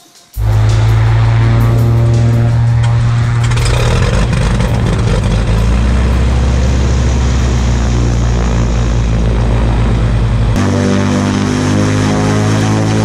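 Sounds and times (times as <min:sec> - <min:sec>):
aircraft engine running: 0:00.4 - 0:13.0.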